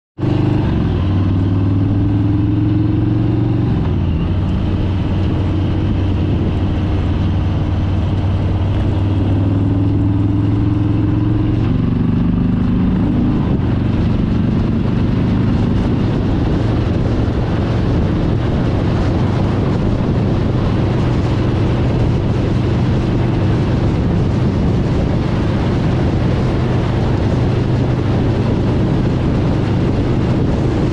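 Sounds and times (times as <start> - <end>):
motorcycle engine running: 0.2 - 30.9
wind rush: 0.2 - 30.9.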